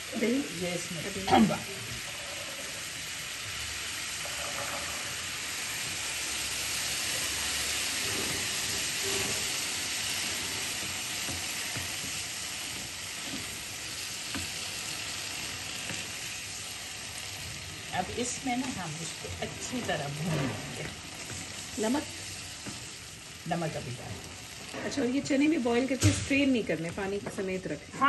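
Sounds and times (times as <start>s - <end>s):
chickpeas sizzling in oil: 0.0s - 28.0s.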